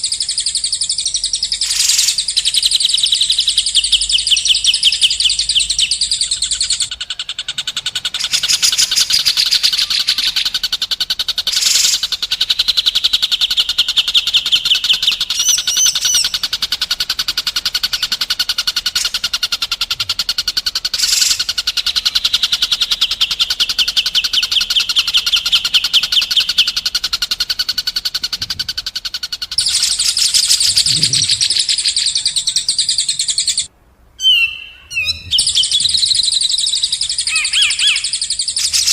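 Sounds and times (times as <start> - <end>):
songbird singing rapid trills: 0.0 - 38.9.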